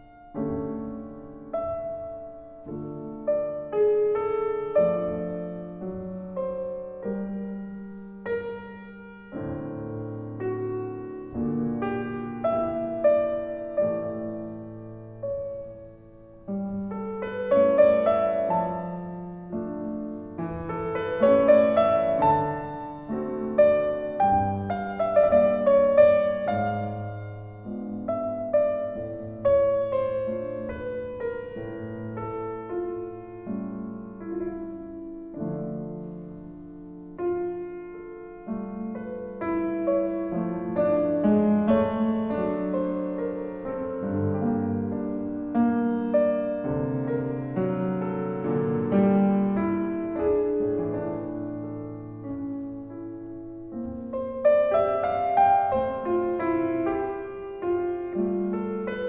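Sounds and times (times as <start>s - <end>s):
slow solo piano music: 0.0s - 59.0s.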